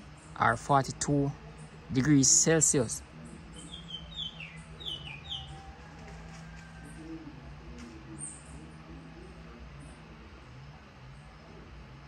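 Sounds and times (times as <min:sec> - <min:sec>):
bird chirping: 0:00.0 - 0:10.0
steady low hum: 0:00.0 - 0:12.0.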